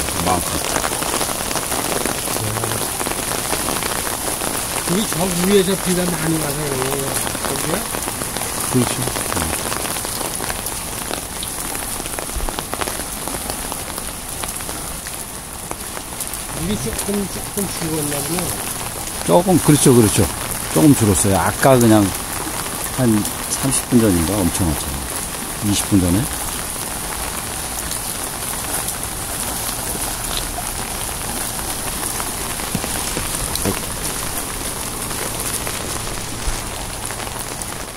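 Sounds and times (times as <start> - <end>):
heavy rain: 0.0 - 37.9
raindrops striking close by: 0.0 - 37.9.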